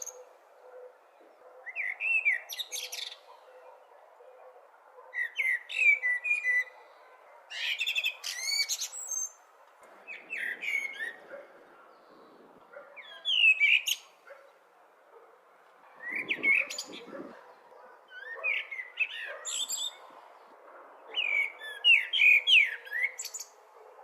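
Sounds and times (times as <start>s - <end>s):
blackbird singing: 0.0s - 9.4s, 10.0s - 14.6s, 16.0s - 20.2s, 21.0s - 23.6s.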